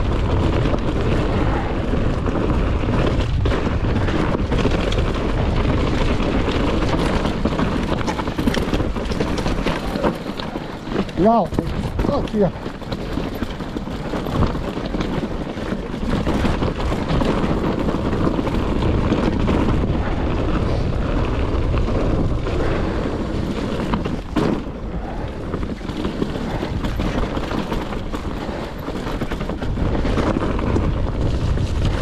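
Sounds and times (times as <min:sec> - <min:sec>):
bike rumbling over rough trail: 0:00.0 - 0:32.0
wind buffeting microphone: 0:00.0 - 0:32.0.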